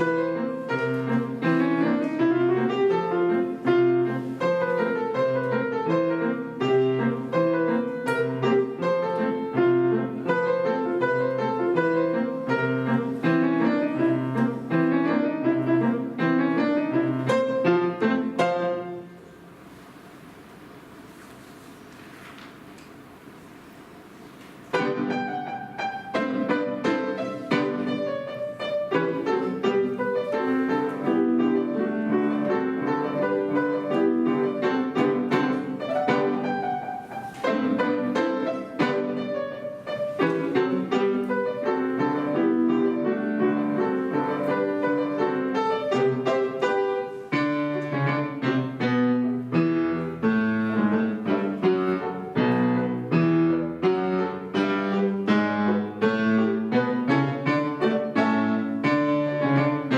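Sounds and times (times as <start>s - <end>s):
piano duo playing: 0.0s - 59.9s.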